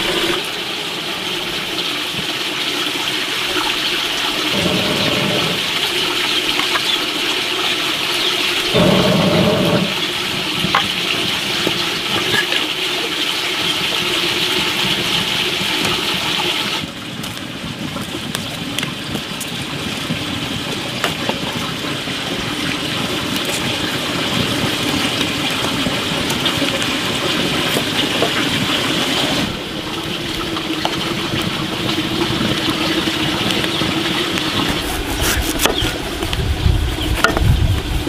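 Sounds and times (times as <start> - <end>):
fire burning with crackles: 0.0 - 38.0.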